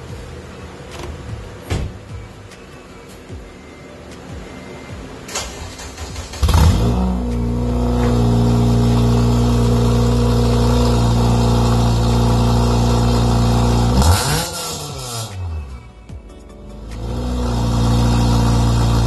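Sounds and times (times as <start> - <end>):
car engine starting and idling: 0.0 - 16.0, 16.7 - 19.0.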